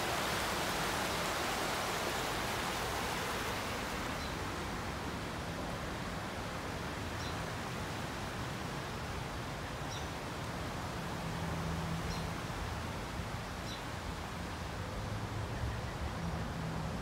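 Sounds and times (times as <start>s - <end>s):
creek running over rocks: 0.0s - 15.5s.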